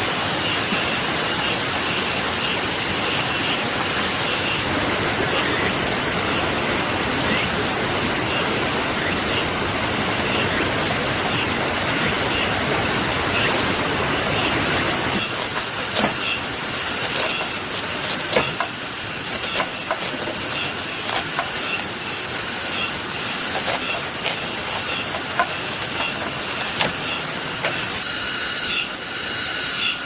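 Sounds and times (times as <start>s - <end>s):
rain hissing: 0.0s - 29.6s.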